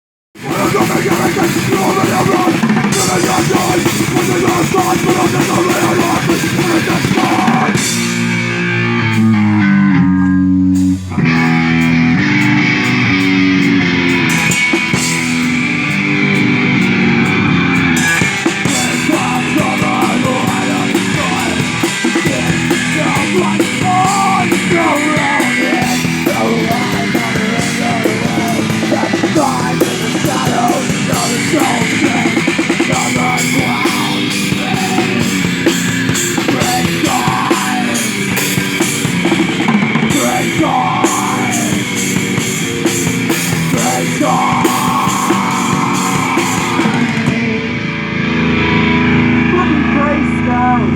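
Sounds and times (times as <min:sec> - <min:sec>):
loud rock song guitar and drums: 0:00.4 - 0:50.9.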